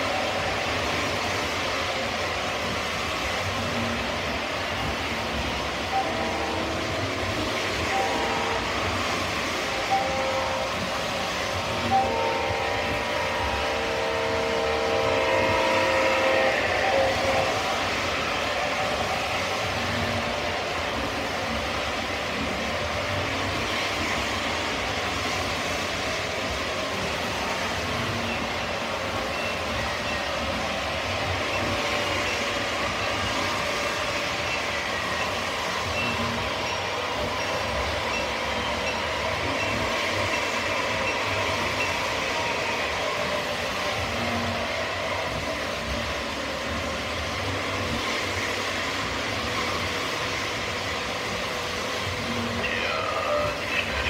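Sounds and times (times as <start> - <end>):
model trains rumbling on rails: 0.0 - 54.0.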